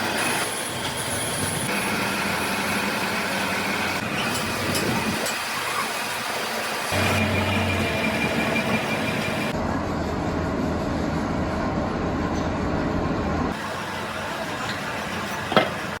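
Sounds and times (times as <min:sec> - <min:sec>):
workshop machinery humming: 0:00.0 - 0:16.0.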